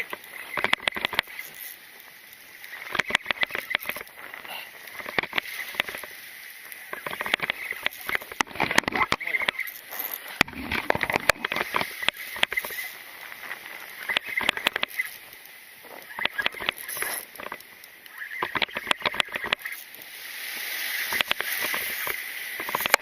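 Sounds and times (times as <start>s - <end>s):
fishing reel clicking: 0.0s - 4.2s, 4.8s - 23.0s
steady hiss: 0.0s - 23.0s.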